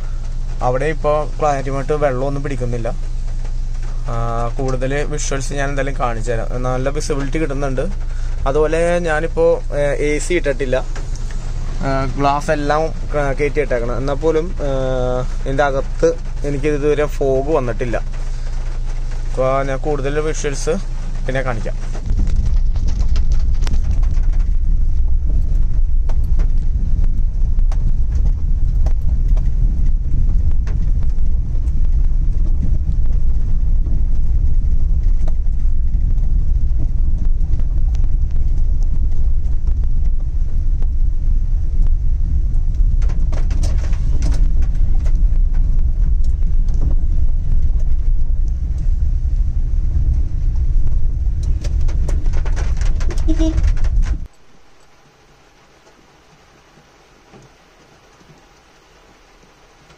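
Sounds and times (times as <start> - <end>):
car moving low rumble: 0.0 - 59.9
raindrops tapping on car: 0.0 - 59.9.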